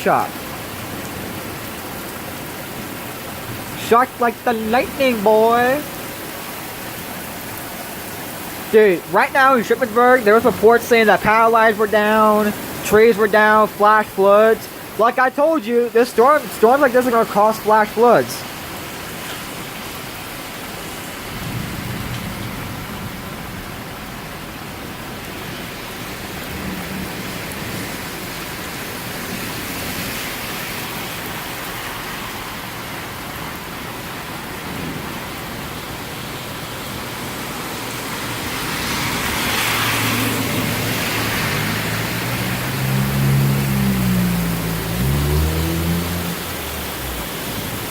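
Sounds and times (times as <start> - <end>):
heavy rain hissing: 0.0 - 47.9.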